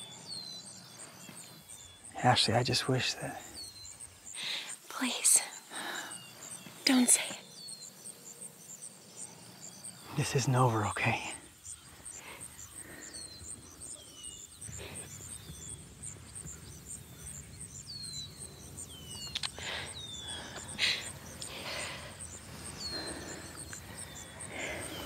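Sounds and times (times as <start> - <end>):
bird chirping: 0.0 - 25.0
insects chirping: 0.0 - 25.0.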